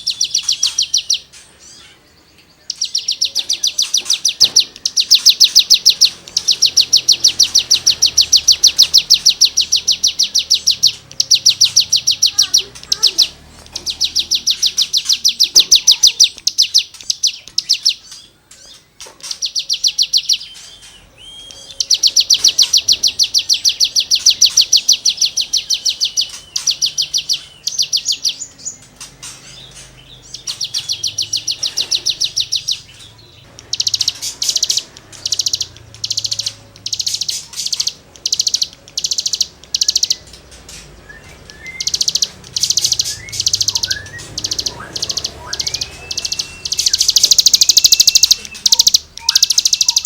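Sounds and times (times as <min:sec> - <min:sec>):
songbird rasping trills: 0:00.0 - 0:50.0.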